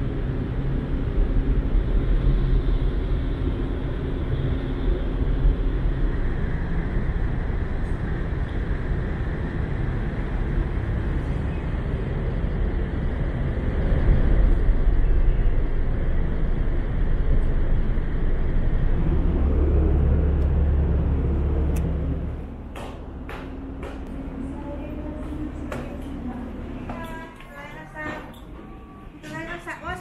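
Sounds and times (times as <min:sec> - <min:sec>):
low rumble of ferry: 0:00.0 - 0:30.0.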